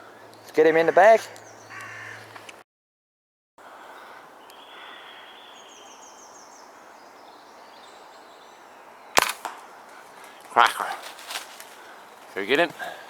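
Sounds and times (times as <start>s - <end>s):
faint birdsong: 0.0s - 2.6s, 3.6s - 13.0s.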